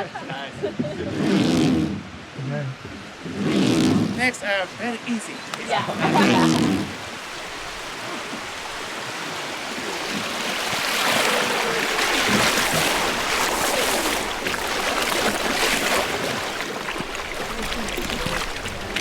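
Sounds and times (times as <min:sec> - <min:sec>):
river water rushing and splashing: 0:00.0 - 0:19.0.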